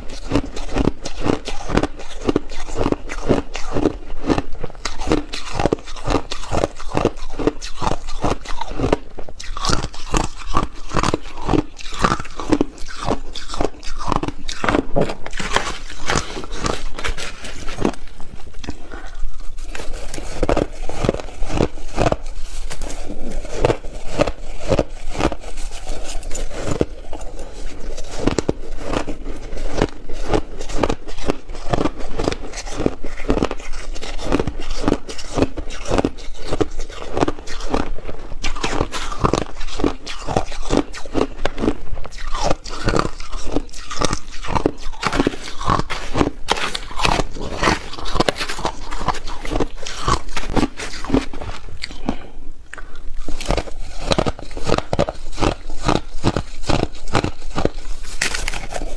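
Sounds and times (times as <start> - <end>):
ice crunching in mouth: 0.0 - 58.9.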